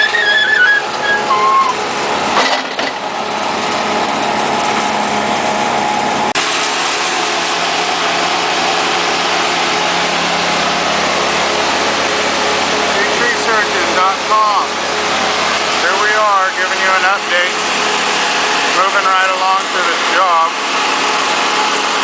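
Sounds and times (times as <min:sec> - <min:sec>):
work machinery engines running: 0:00.0 - 0:22.0.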